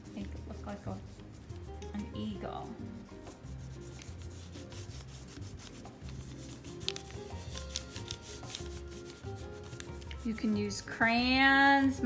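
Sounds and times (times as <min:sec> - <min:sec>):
colouring strokes scratching on paper: 0:00.0 - 0:12.0.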